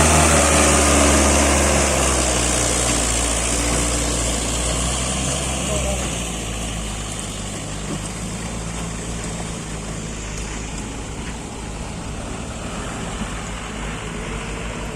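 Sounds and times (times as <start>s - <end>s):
tractor diesel engine humming: 0.0s - 14.9s.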